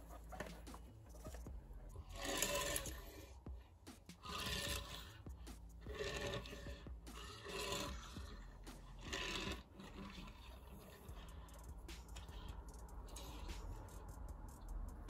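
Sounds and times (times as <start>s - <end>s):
toy cars rolling on wood: 0.0s - 14.4s.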